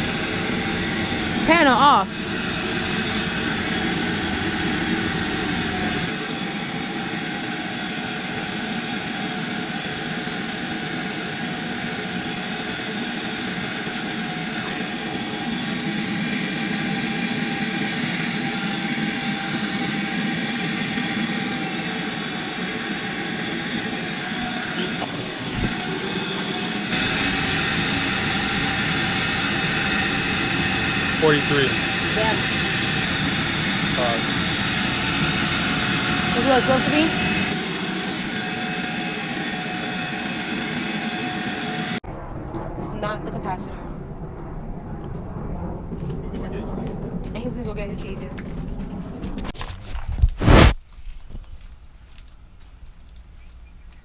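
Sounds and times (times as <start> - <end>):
steady machine tones: 0.0 - 49.4
machinery drone: 0.0 - 49.5.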